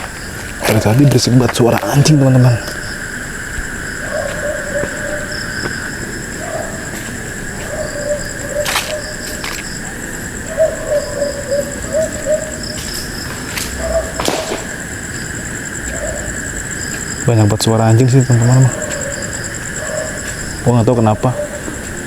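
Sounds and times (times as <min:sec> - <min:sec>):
distant dogs barking: 0:00.0 - 0:22.0
night insects chorus: 0:00.0 - 0:22.0.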